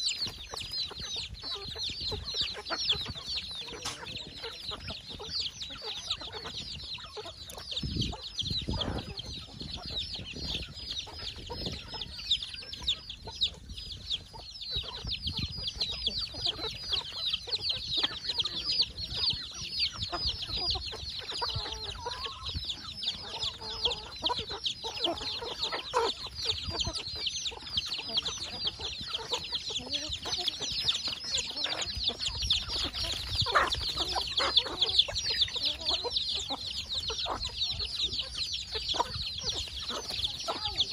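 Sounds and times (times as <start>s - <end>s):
chicks peeping: 0.0s - 40.9s
hens clucking: 0.0s - 40.9s.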